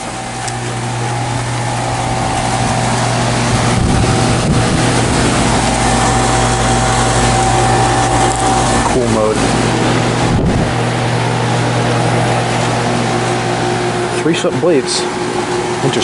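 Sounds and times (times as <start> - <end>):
condenser fan air rush: 0.0 - 16.0
low compressor hum: 0.0 - 16.0.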